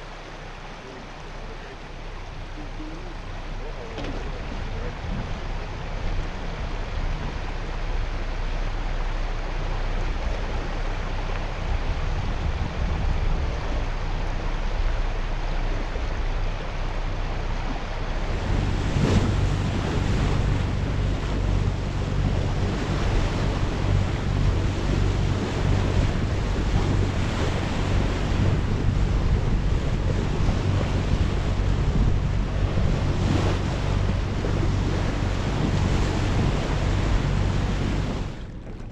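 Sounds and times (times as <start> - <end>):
steady low hum: 0.0 - 38.9
water washing past hull: 0.0 - 38.9
wind over microphone: 0.0 - 38.9.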